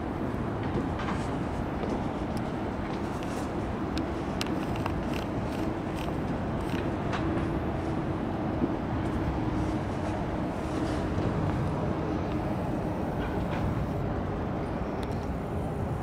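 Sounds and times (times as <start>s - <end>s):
train crossing a bridge: 0.0s - 16.0s.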